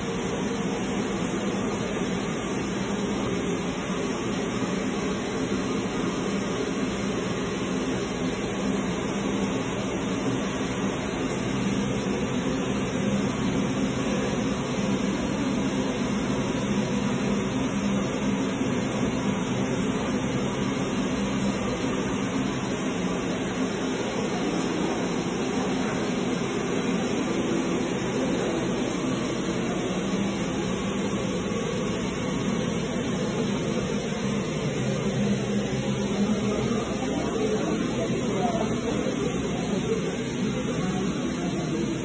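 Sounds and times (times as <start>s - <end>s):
steady machine hum with hiss: 0.0s - 42.0s.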